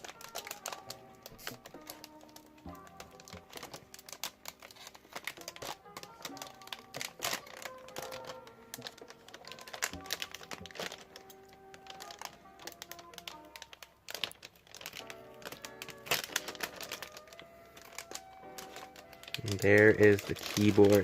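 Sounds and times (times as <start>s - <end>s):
background music with held notes: 0.0s - 21.0s
plastic bag crinkling: 0.0s - 21.0s.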